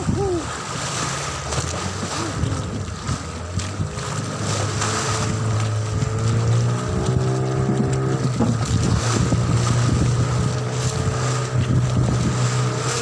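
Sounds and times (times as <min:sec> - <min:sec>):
boat motor running: 0:00.0 - 0:13.0
choppy sea water rushing: 0:00.0 - 0:13.0
wind buffeting microphone: 0:00.0 - 0:13.0.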